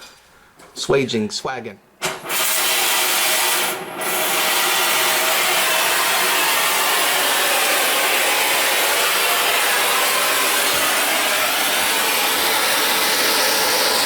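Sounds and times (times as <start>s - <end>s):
torch flame hissing: 2.1s - 14.0s.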